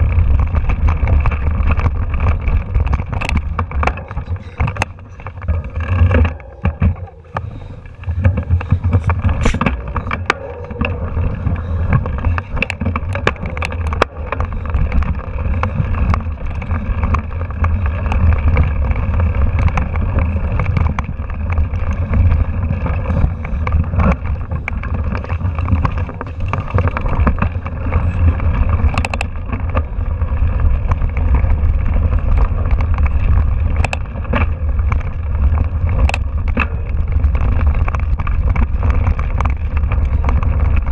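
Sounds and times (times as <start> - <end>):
mountain bike rattling over rocks: 0.0 - 40.9
wheels knocking on rocks: 0.0 - 40.9
wind buffeting microphone: 0.0 - 40.9.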